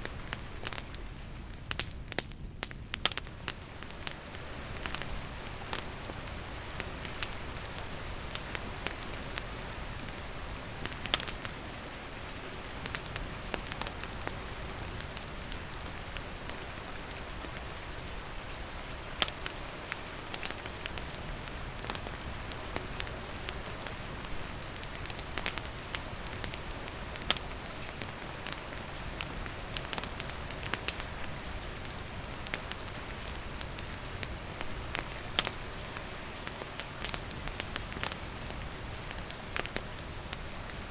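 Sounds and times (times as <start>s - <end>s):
campfire crackling: 0.0s - 40.9s
steady rain falling: 0.0s - 40.9s.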